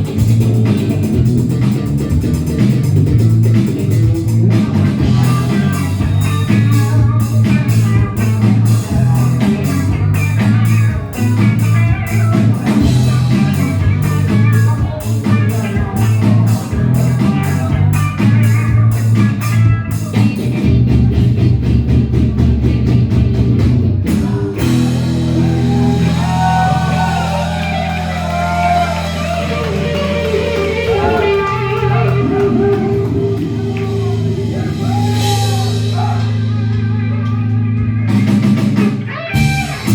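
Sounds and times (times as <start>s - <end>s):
drums: 0.0s - 39.9s
held bass notes: 0.0s - 39.9s
rock band playing live: 0.0s - 39.9s.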